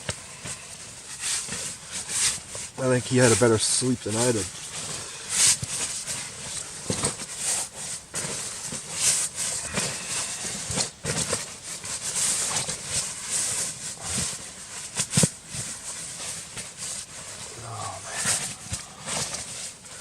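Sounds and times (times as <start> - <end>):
rustling and crunching handling noise: 0.0 - 20.0.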